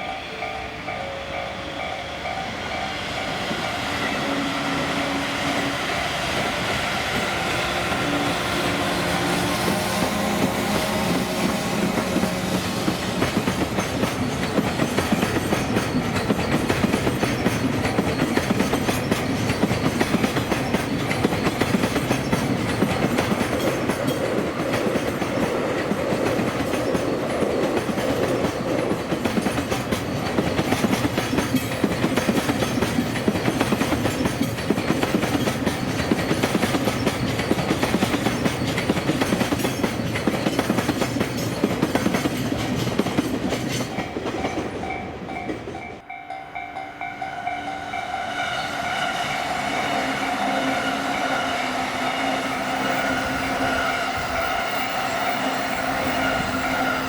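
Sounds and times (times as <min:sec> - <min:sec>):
electric train passing: 0:00.0 - 0:57.0.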